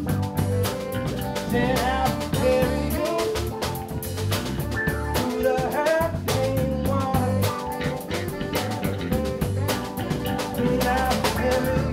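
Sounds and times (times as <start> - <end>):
drum kit steady beat: 0.0 - 11.9
electric bass: 0.0 - 11.9
electric guitar: 0.0 - 11.9
wavering melody line: 0.0 - 11.9.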